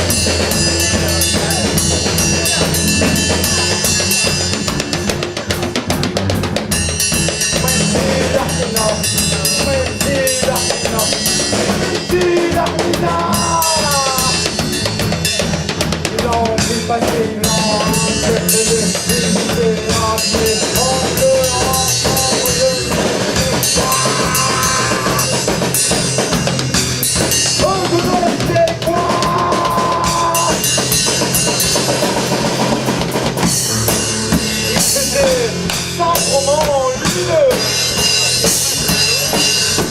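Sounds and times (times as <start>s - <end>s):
bass line: 0.0s - 39.9s
drum kit beat: 0.0s - 39.9s.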